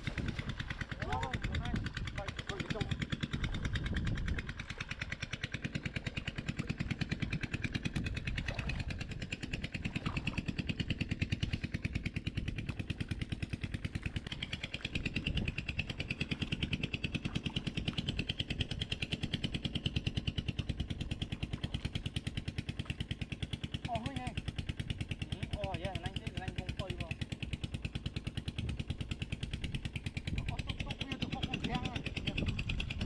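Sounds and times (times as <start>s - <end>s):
small boat engine puttering: 0.0s - 33.0s.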